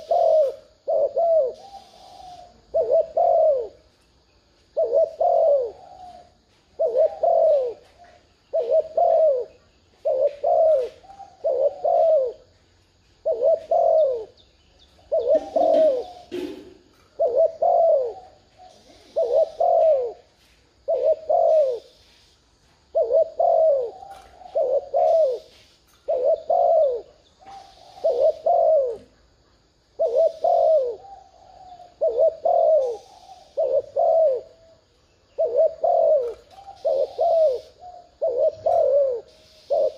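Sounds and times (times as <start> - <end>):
dove cooing: 0.0 - 4.0, 4.7 - 22.2, 22.9 - 39.9.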